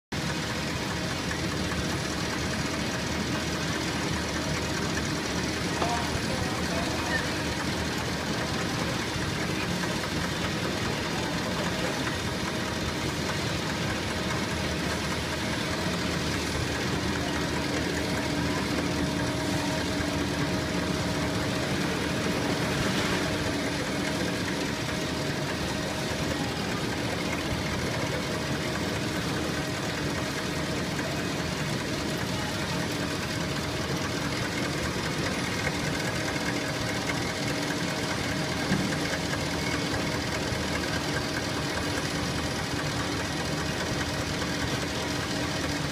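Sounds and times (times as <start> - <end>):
machine conveyors clattering: 0.2 - 45.9.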